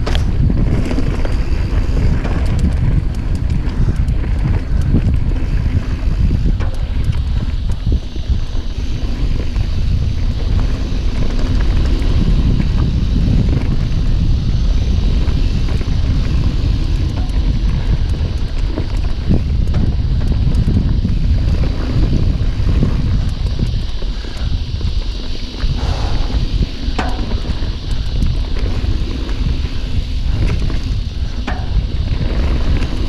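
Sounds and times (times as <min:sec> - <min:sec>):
bike knocking and rattling: 0:00.0 - 0:33.0
tyres rumbling over dirt trail: 0:00.0 - 0:33.0
wind buffeting microphone: 0:00.0 - 0:33.0.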